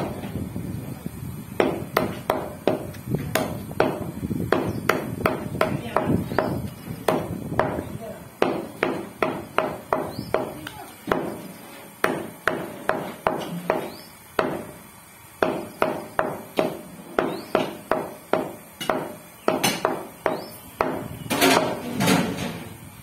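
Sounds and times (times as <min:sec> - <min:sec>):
cleaver chopping meat on wood: 0:01.6 - 0:11.4, 0:12.0 - 0:14.7, 0:15.4 - 0:21.8.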